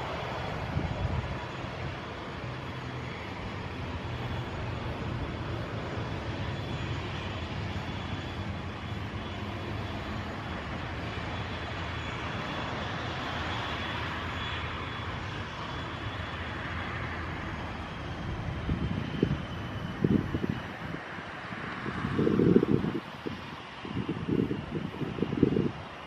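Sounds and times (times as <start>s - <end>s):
wind buffeting microphone: 0.0s - 14.6s, 17.6s - 26.0s
distant jet engines: 0.0s - 26.0s.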